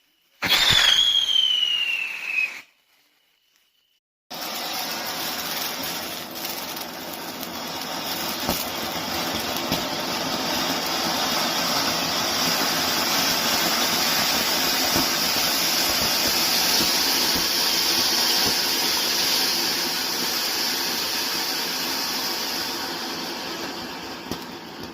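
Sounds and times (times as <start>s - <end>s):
ground firework hissing sparks: 0.0s - 24.9s.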